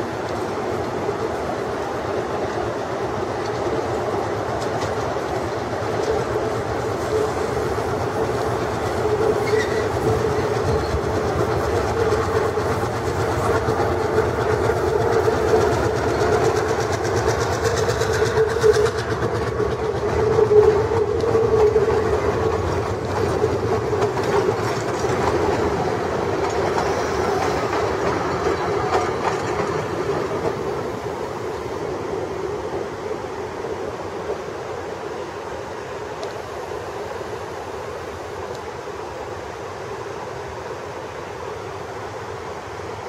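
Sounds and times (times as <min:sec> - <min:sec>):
train wheels rolling over rails: 0:00.0 - 0:43.0.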